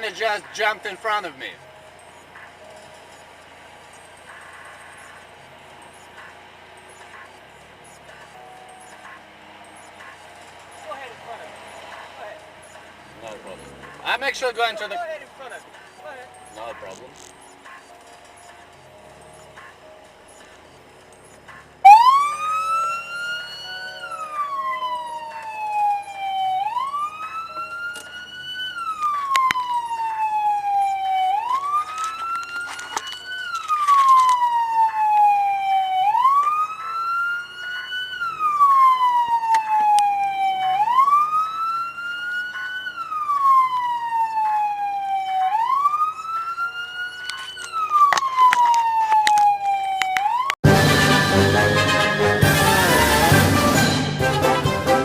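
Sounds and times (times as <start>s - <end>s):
emergency vehicle siren wailing: 0.0s - 55.0s.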